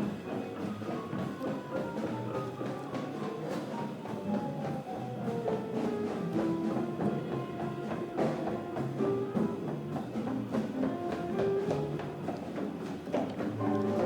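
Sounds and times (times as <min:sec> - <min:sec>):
acoustic piano: 0:00.0 - 0:14.0
drum kit: 0:00.0 - 0:14.0.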